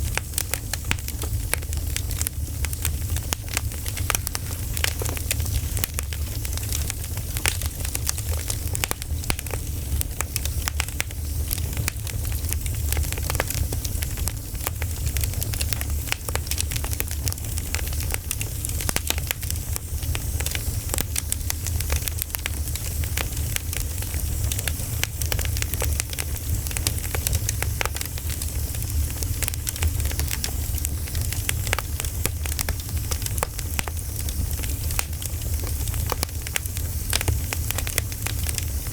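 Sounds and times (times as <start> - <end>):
campfire crackling: 0.0 - 38.9
low rumble of flames: 0.0 - 38.9.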